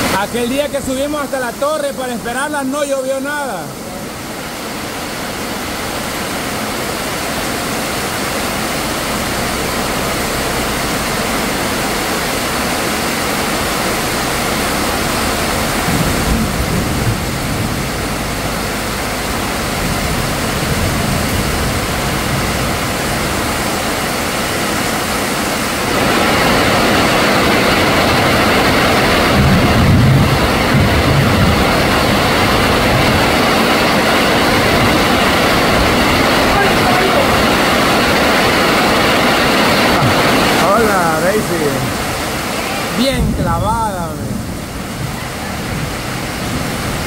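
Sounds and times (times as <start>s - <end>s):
heavy rain on metal roof: 0.0s - 47.0s.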